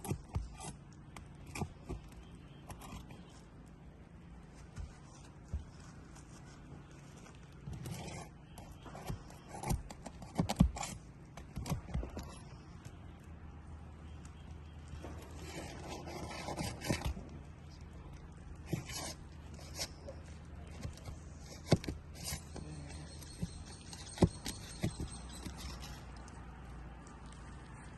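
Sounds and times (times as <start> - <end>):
scraping on shingles: 0.0 - 13.0, 14.2 - 26.4.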